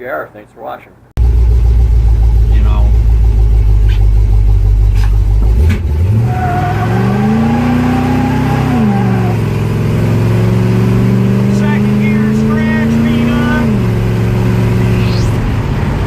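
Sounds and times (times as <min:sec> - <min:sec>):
vehicle engine revving: 0:01.2 - 0:16.0.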